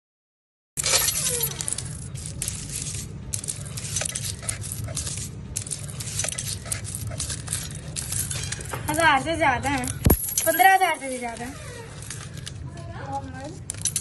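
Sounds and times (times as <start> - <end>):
coins clinking and rattling: 0.8 - 14.0
coins scraping: 0.8 - 14.0.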